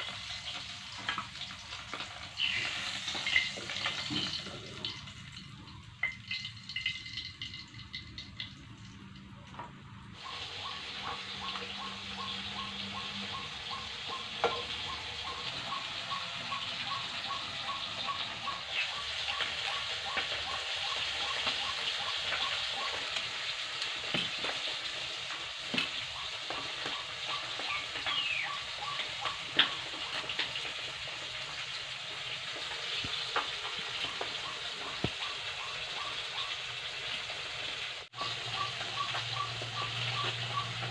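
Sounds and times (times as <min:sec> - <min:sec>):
hot oil sizzling in a wok: 0:00.0 - 0:40.9.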